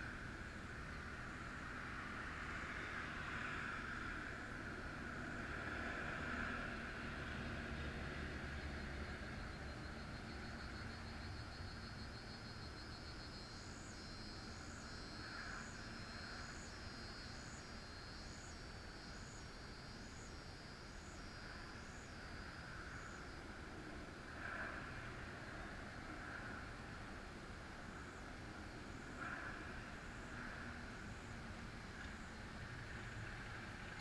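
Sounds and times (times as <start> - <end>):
distant highway traffic hum: 0.0 - 34.0.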